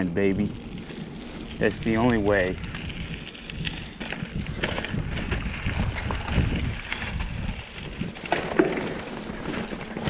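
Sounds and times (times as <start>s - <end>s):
bike clicks and rattles: 0.0s - 10.0s
bike tyres crunching over stones: 0.0s - 10.0s
wind buffeting microphone: 0.0s - 10.0s.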